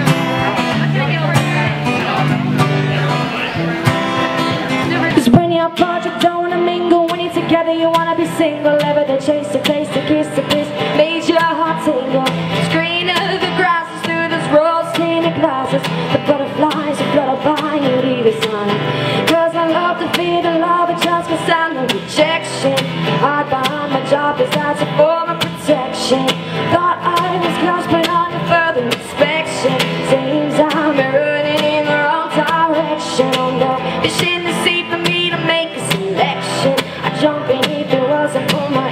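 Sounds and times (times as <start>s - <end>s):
strummed acoustic guitar: 0.0s - 38.9s
woman singing: 4.8s - 38.9s.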